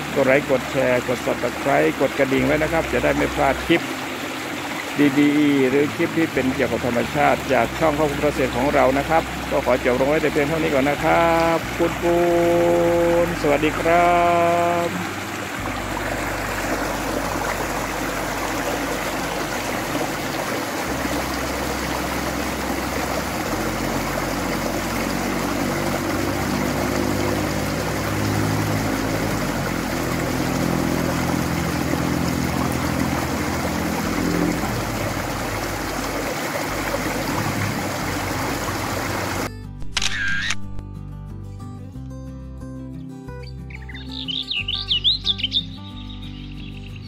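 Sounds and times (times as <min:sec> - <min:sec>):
water gushing from outlet: 0:00.0 - 0:39.5.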